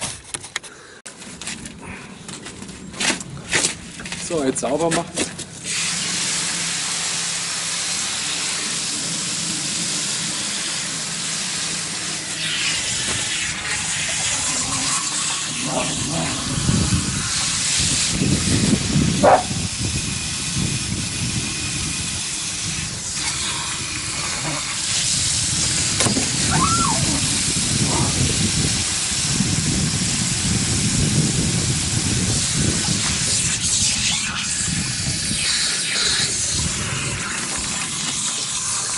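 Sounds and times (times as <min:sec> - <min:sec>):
hose nozzle spraying water: 0:04.3 - 0:38.9.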